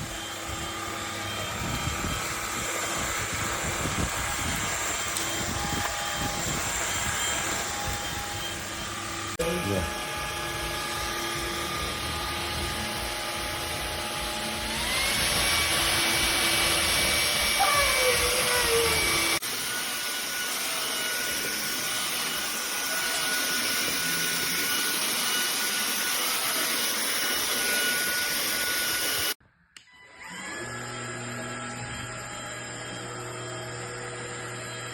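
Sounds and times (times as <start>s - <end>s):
vacuum cleaner motor whining: 0.0s - 34.9s.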